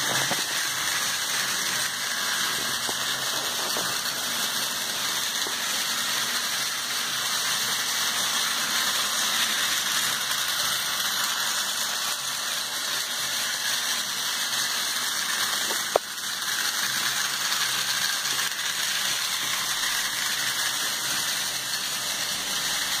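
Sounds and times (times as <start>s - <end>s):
toy train motors whirring: 0.0s - 23.0s.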